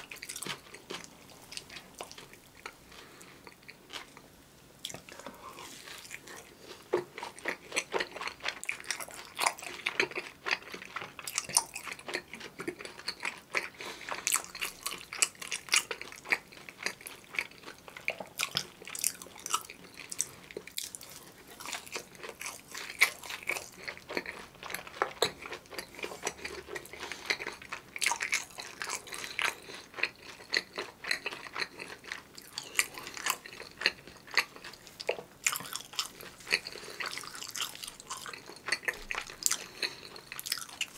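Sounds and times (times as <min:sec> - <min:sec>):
chewing crunchy fried food: 0:00.0 - 0:40.9.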